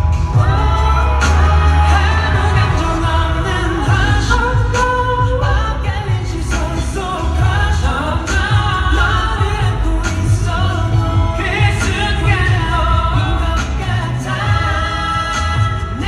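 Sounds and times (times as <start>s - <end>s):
man singing: 0.0s - 16.0s
pop backing track with bass: 0.0s - 16.0s.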